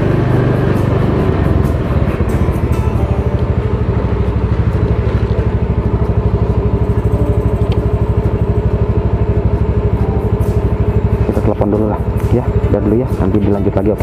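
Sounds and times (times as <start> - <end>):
motor scooter engine running: 0.0 - 14.0.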